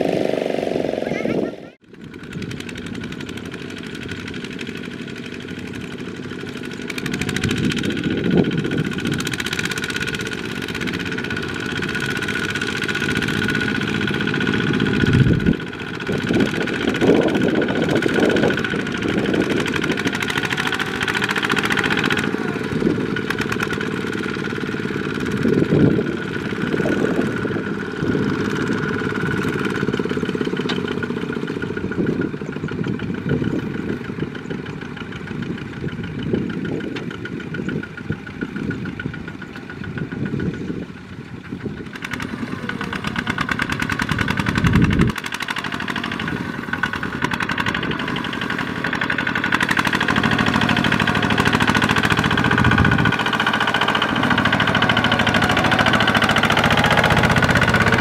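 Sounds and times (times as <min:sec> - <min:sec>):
diesel tractor engines chugging: 0:00.0 - 0:58.0.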